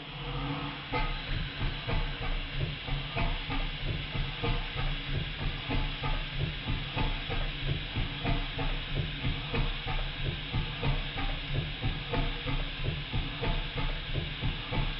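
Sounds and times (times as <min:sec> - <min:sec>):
steady steam hiss: 0:00.0 - 0:14.9
steam engine exhaust beats: 0:00.0 - 0:14.9.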